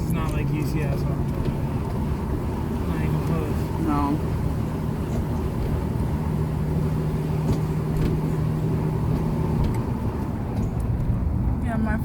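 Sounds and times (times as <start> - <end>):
engine and road rumble in car: 0.0 - 12.0.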